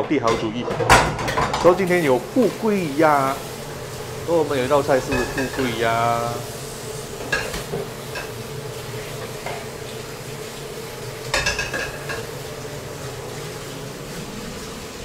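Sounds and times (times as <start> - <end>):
steady hum: 1.7 - 15.0.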